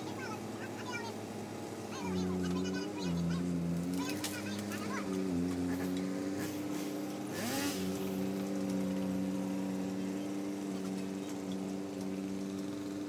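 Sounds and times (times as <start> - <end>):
construction machine engine running: 0.0 - 13.0.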